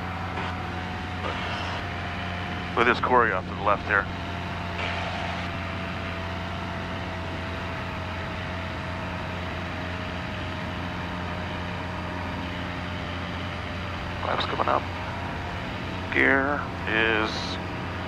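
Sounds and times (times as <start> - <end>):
landing gear whine: 0.0 - 18.0
propeller plane engine droning: 0.0 - 18.0.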